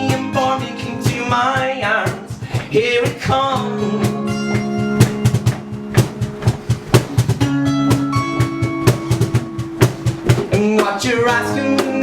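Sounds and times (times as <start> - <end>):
drum kit beat: 0.0 - 12.0
guitar chords: 0.0 - 12.0.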